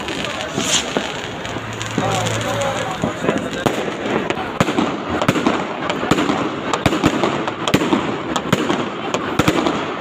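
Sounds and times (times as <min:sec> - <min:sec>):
fireworks bangs and pops: 0:00.0 - 0:10.0
fireworks crackling: 0:00.0 - 0:10.0.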